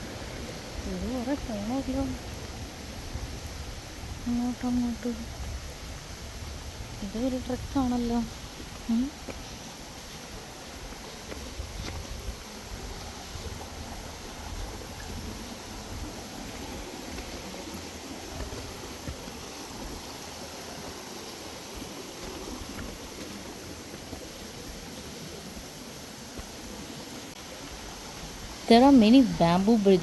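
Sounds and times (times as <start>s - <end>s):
stream flowing: 0.0s - 30.0s.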